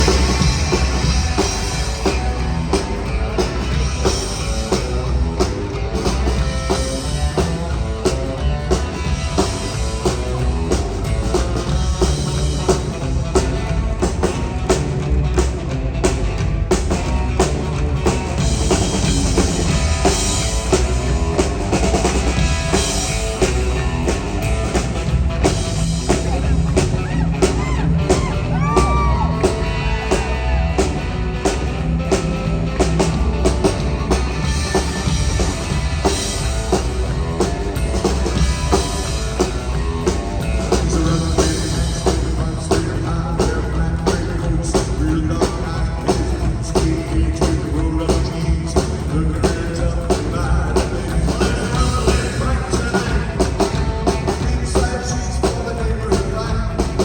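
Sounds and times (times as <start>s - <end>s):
bass drum beat: 0.0s - 57.0s
rockabilly band playing: 0.0s - 57.0s.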